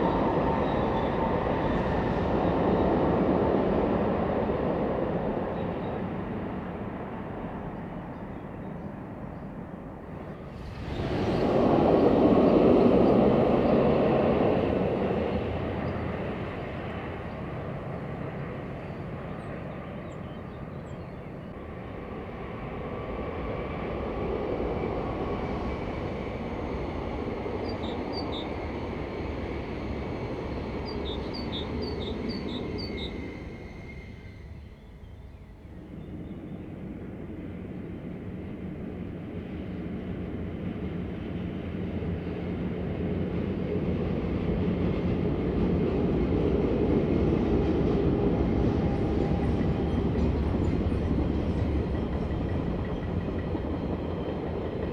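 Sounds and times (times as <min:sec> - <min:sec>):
electric train rumbling: 0:00.0 - 0:54.9.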